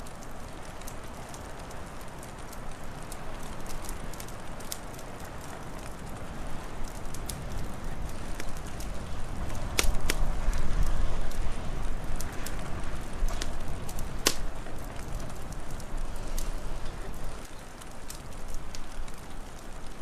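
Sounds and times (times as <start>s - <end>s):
low rumble of wind: 0.0s - 20.0s
wood fire crackling: 0.0s - 20.0s.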